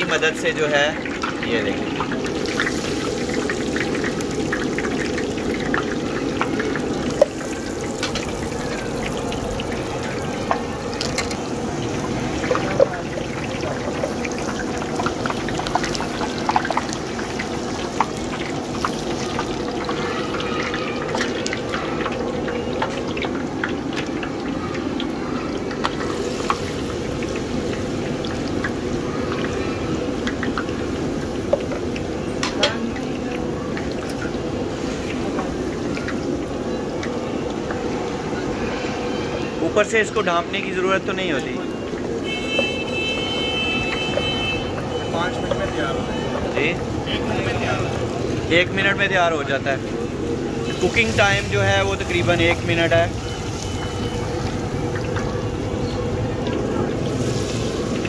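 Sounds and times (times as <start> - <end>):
batter trickling into oil: 0.0 - 58.0
oil popping: 0.0 - 58.0
oil sizzling: 0.0 - 58.0.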